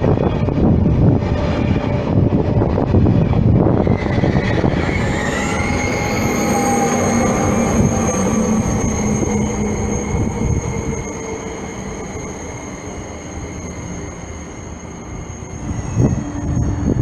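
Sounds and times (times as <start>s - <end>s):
high whining tones: 0.0s - 17.0s
train wheels rumbling on rails: 0.0s - 17.0s.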